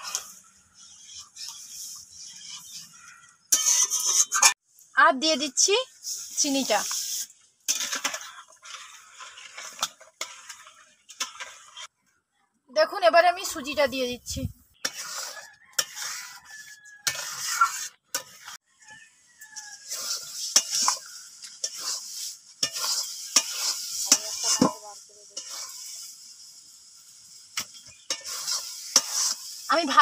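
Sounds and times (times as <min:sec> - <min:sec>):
mixture hissing while cooking: 0:00.0 - 0:02.9, 0:05.2 - 0:11.9, 0:13.2 - 0:30.0
metal spatula scraping a pan: 0:00.0 - 0:04.6, 0:05.2 - 0:12.0, 0:13.4 - 0:18.6, 0:19.4 - 0:30.0.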